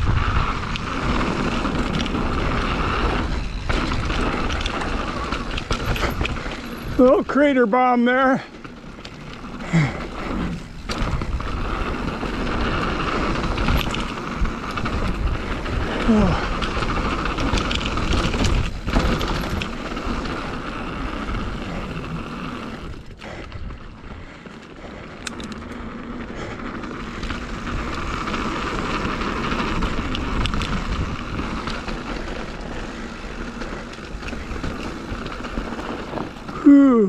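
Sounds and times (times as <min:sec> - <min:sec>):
rushing wind noise: 0:00.0 - 0:07.4, 0:08.8 - 0:24.3, 0:26.4 - 0:36.7
bike clicks and rattles: 0:00.0 - 0:37.0
tyres rolling over dirt: 0:00.0 - 0:37.0.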